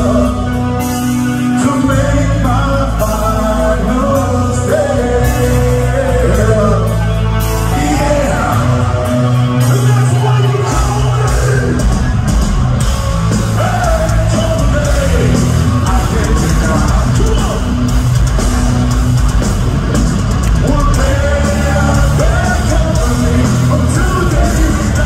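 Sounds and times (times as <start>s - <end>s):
man singing lead vocal: 0.0s - 12.0s, 13.4s - 17.9s, 20.5s - 25.0s
heavy metal band playing: 0.0s - 25.0s.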